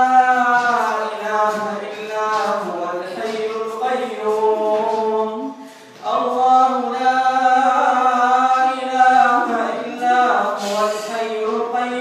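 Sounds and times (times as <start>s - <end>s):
man chanting prayer: 0.0s - 12.0s.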